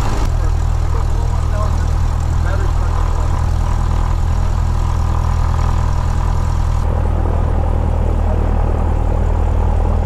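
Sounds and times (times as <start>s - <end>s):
airplane engine droning: 0.0s - 10.0s.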